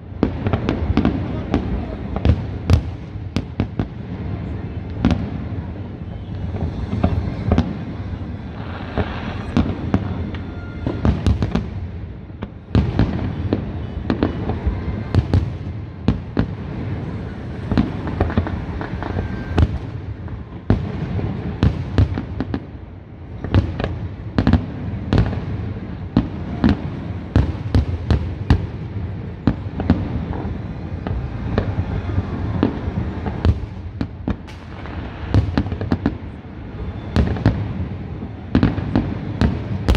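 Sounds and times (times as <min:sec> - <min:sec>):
continuous rumble: 0:00.0 - 0:39.9
firework bangs and cracks: 0:00.0 - 0:39.9.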